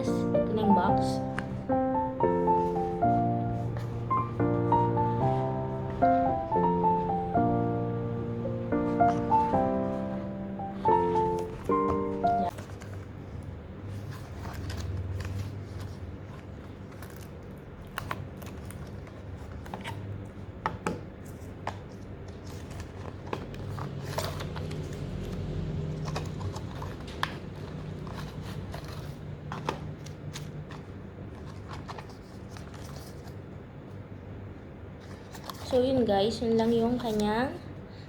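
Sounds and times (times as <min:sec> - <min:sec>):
paper rustling: 0:00.0 - 0:20.1, 0:21.2 - 0:33.6, 0:35.0 - 0:36.0.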